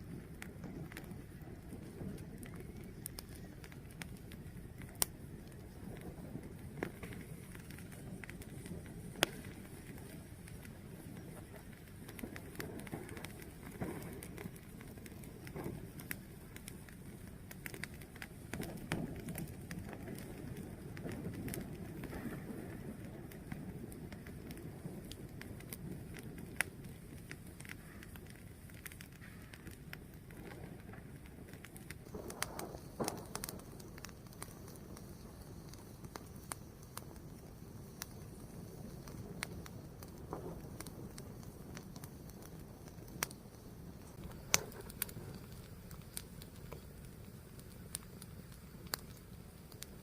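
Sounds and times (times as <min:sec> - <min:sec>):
fire crackling and popping: 0:00.0 - 0:50.0.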